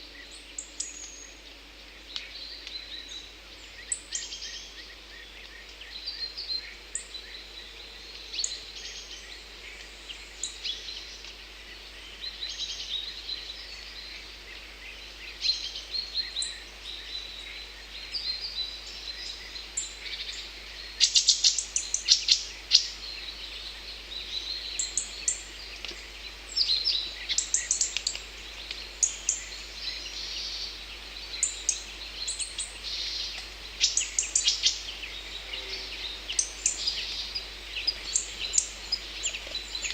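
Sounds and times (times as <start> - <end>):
faint steady hiss: 0.0 - 39.9
songbirds chirping and trilling: 0.0 - 39.9.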